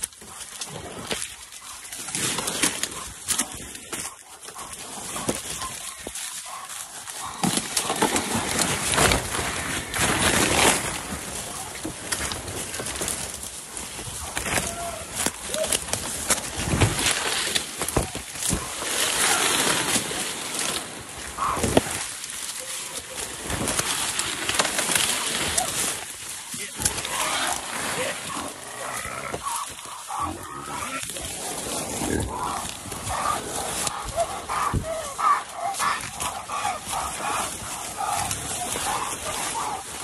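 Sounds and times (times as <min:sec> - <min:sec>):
branches brushing and snapping: 0:00.0 - 0:40.0
footsteps running through leaves: 0:00.0 - 0:40.0.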